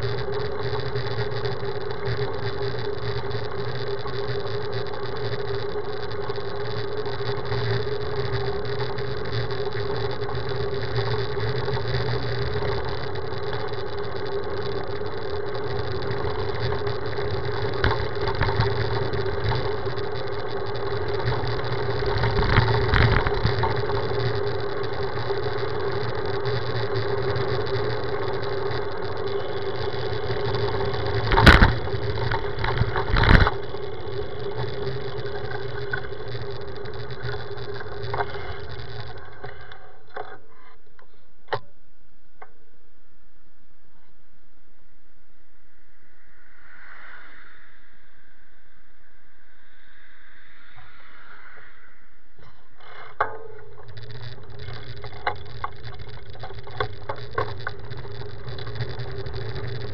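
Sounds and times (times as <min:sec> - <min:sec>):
bike rolling over asphalt: 0:00.0 - 0:40.8, 0:52.4 - 0:59.9
constant hum: 0:00.0 - 0:59.9.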